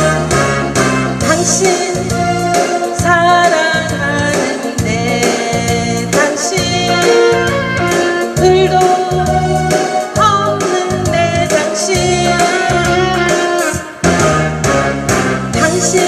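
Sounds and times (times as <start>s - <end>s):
backing music with bass and drums: 0.0s - 16.0s
woman singing into a microphone: 1.2s - 14.0s, 15.6s - 16.0s.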